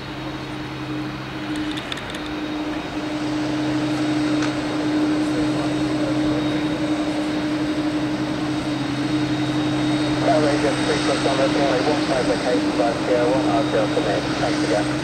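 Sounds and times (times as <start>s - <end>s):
jet engines droning: 0.0s - 15.0s.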